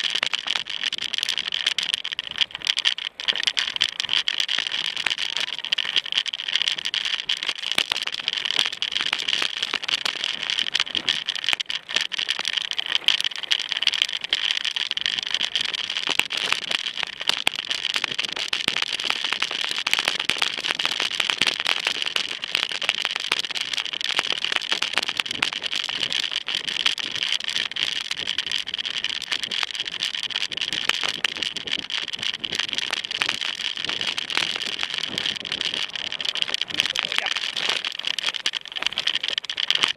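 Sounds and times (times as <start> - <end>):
bike rattling on rough trail: 0.0 - 39.9.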